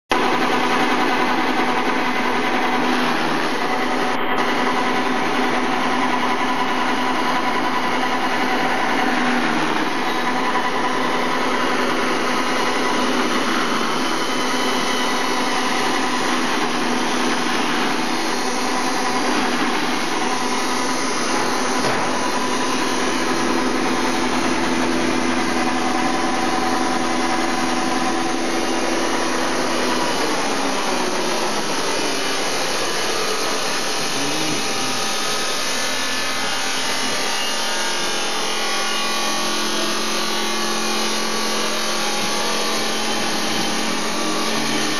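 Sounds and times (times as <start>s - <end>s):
chaff cutter humming: 0.1s - 44.9s
grass cutting noise: 0.2s - 44.9s.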